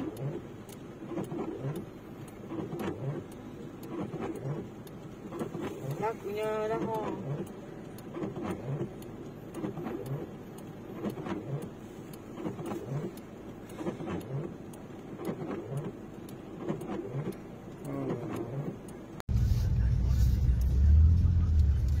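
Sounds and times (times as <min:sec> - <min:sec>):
street and vehicle noise: 0:00.0 - 0:22.0.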